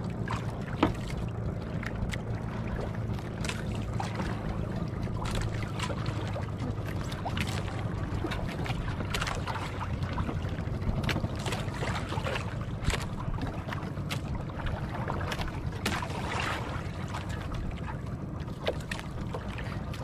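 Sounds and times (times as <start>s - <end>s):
boat engine running: 0.0s - 20.0s
water splashing against hull: 0.0s - 20.0s.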